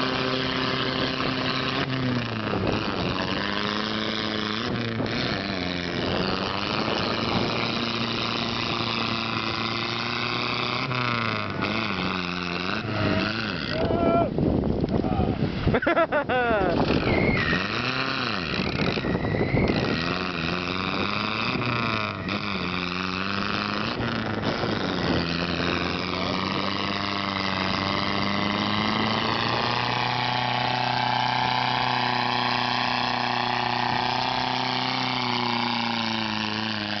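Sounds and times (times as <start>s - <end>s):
pickup truck engine revving: 0.0s - 13.9s, 15.8s - 37.0s.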